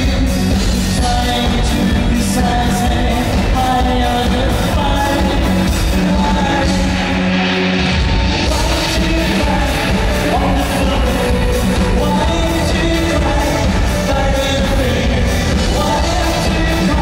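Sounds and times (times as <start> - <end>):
man singing: 0.0 - 7.5, 8.4 - 17.0
live pop band playing: 0.0 - 17.0.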